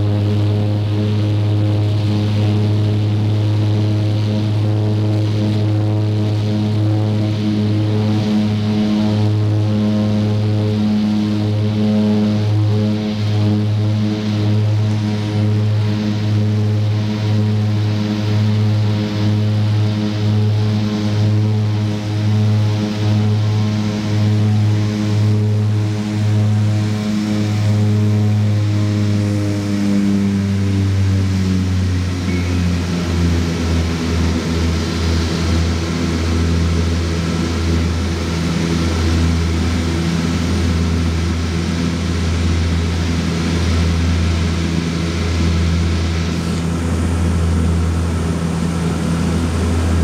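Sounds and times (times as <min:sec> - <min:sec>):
turboprop engines droning: 0:00.0 - 0:50.0.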